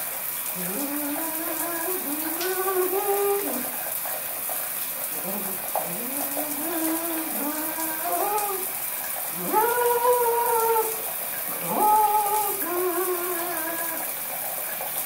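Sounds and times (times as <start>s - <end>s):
shower spray hissing: 0.0s - 15.0s.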